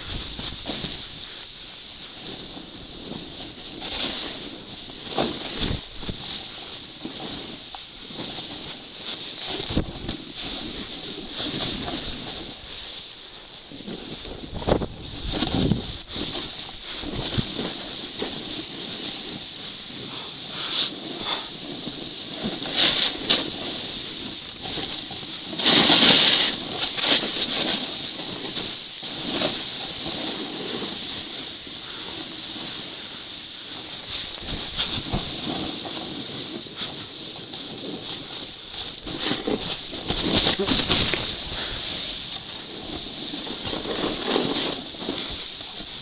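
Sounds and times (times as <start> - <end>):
wind on microphone: 0.0 - 12.9, 13.6 - 46.0
snow scraping under board edges: 0.0 - 46.0.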